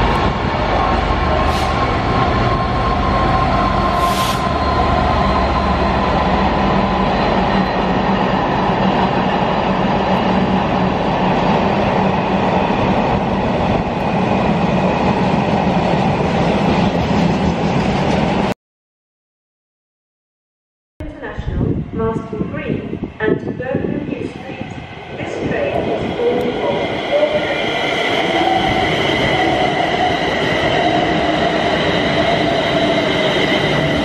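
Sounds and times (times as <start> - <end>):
diesel locomotive engine: 0.0 - 18.5, 21.0 - 34.0.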